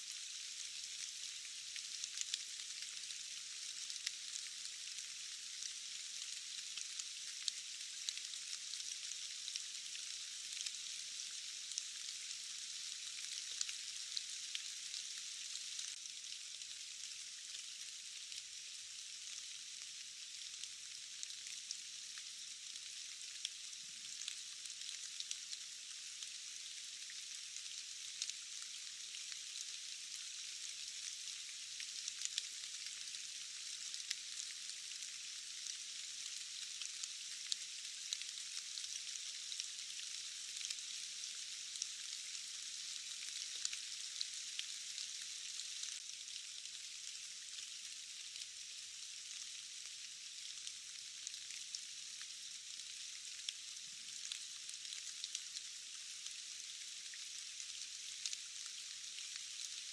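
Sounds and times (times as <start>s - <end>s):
rainfall hiss: 0.0s - 59.9s.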